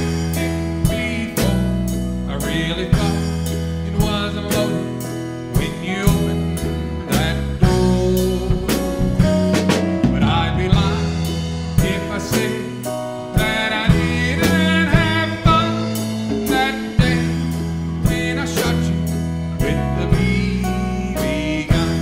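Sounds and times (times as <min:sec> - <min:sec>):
country gospel band music: 0:00.0 - 0:22.0
drum kit beat: 0:00.0 - 0:22.0
wavering melodic lead line: 0:00.0 - 0:22.0.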